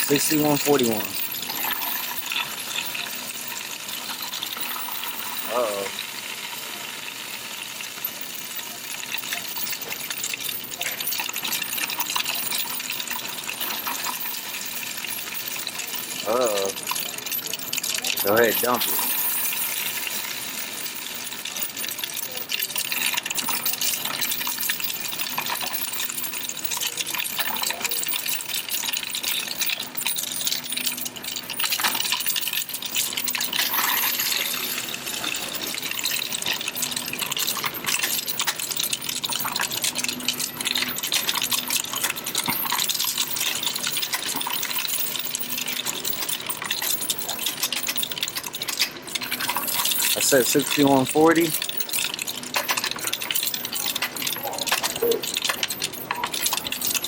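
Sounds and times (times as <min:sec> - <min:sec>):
coins rattling through counting machine: 0:00.0 - 0:57.0.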